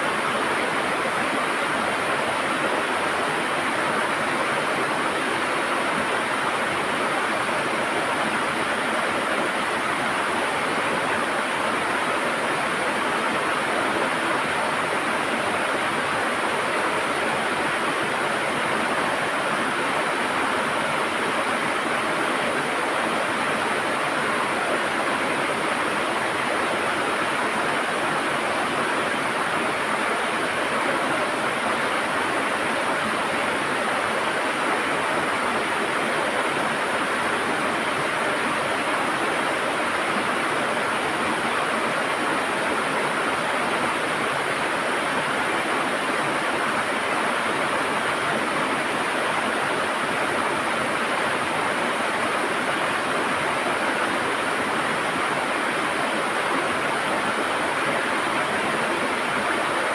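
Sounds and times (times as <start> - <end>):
river water rushing over stones: 0.0 - 59.9.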